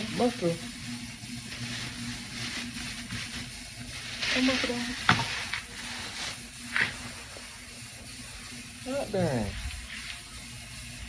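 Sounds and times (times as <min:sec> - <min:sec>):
objects rustling and shuffling: 0:00.0 - 0:10.3.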